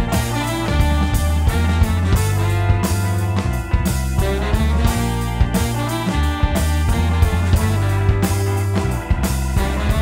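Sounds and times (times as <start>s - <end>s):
band playing with horns: 0.0s - 10.0s.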